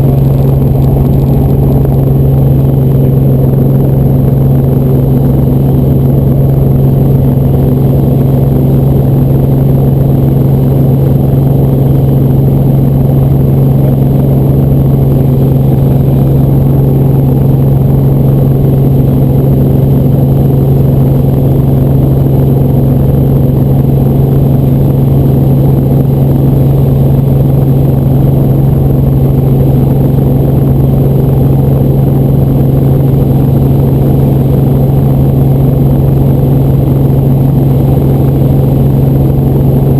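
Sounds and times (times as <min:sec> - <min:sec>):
helicopter cabin drone: 0:00.0 - 0:39.9.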